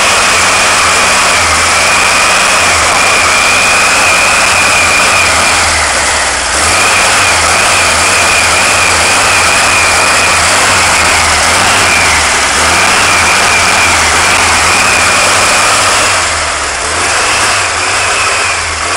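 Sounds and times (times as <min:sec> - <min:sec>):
car engine running loud: 0:00.0 - 0:18.9
high wavering whine: 0:00.0 - 0:18.9.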